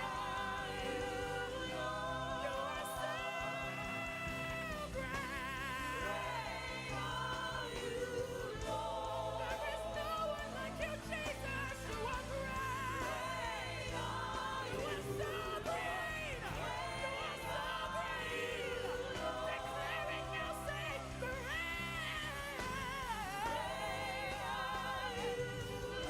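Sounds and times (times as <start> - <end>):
voices singing with vibrato: 0.0 - 26.0.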